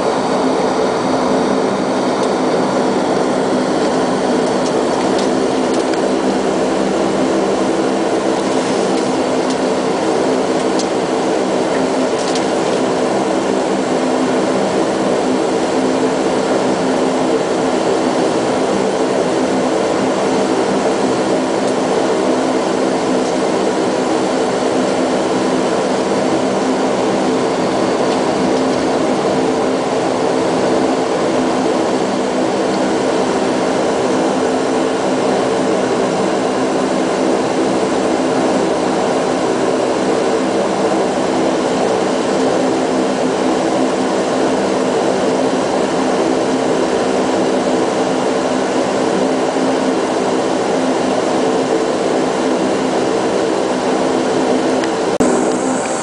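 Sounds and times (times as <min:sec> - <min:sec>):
turboprop engines droning: 0:00.0 - 0:56.0.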